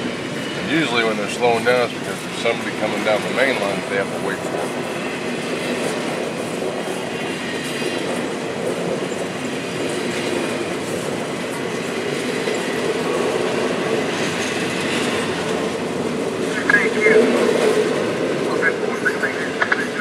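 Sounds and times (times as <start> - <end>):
freight train rolling past: 0.0 - 20.0
steel wheels rumbling on rails: 0.0 - 20.0.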